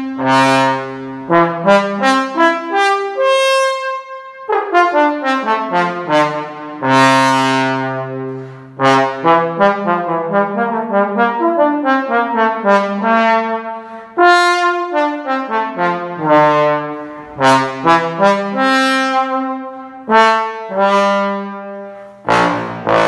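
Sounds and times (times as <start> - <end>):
trombone playing solo: 0.0 - 23.0.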